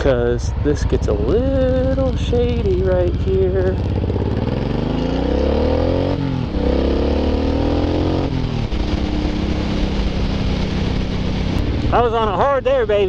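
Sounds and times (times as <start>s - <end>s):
motorcycle engine accelerating hard: 0.0s - 13.0s.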